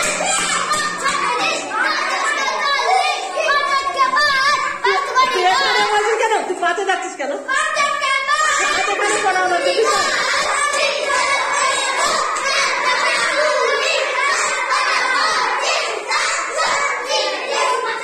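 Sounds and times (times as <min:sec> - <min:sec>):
children talking and shouting: 0:00.0 - 0:18.0.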